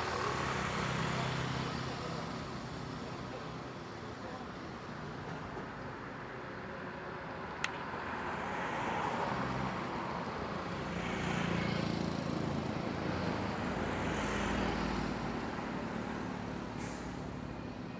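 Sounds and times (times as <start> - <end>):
road and wind noise: 0.0 - 17.9.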